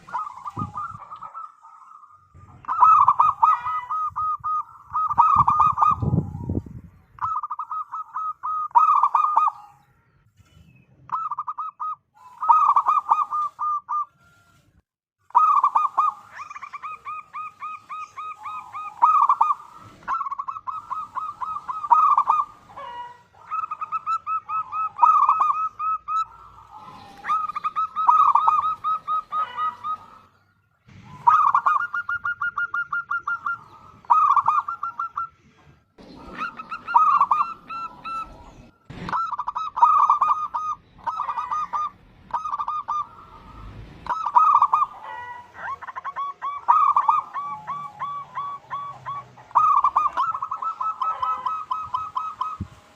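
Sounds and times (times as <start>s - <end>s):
doves cooing: 0.0s - 10.0s, 11.0s - 14.4s, 15.3s - 52.9s.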